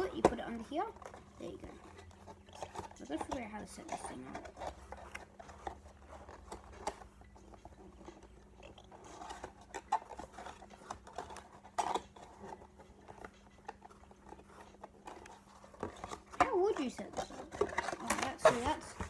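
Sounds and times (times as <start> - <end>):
packaging crinkling: 0.0 - 19.0
plastic accessories clicking and tapping: 0.0 - 19.0.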